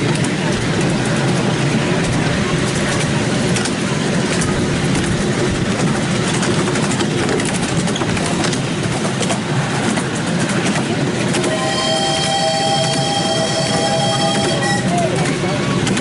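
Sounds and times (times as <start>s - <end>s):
wheel clicks on track: 0.0s - 11.5s, 12.2s - 16.0s
train wheels rumbling on rails: 0.0s - 16.0s.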